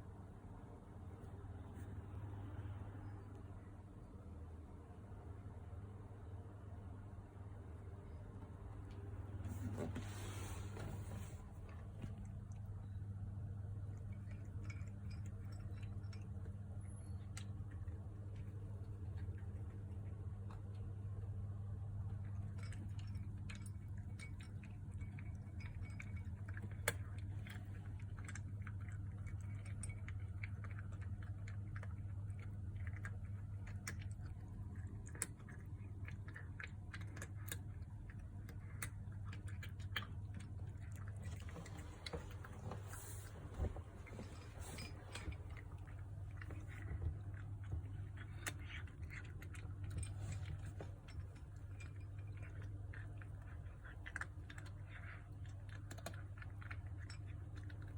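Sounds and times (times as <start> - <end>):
steady low hum: 0.0 - 57.9
kittens crunching dry food: 8.4 - 57.9.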